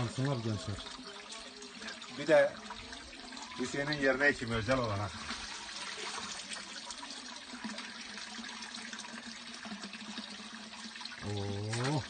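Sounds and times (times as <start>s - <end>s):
water running from fountain spout: 0.0s - 12.0s
water splashing into basin: 0.0s - 12.0s.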